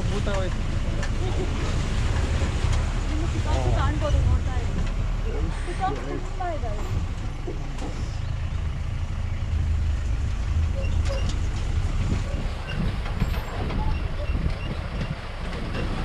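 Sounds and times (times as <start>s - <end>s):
vehicle driving on rough track: 0.0s - 16.0s.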